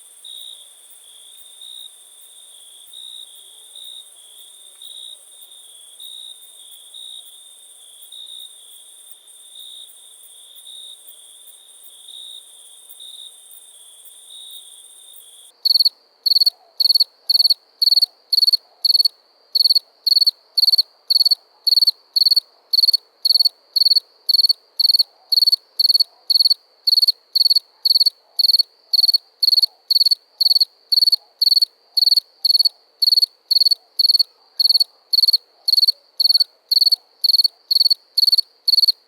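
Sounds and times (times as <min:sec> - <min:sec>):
cricket sharp chirps: 0:00.0 - 0:39.0.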